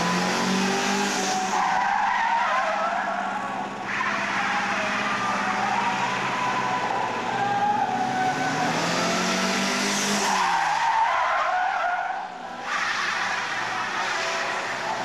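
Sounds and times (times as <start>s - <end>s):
tyres squealing on tarmac: 0.0s - 9.2s, 10.1s - 15.0s
car engine revving: 0.0s - 15.0s.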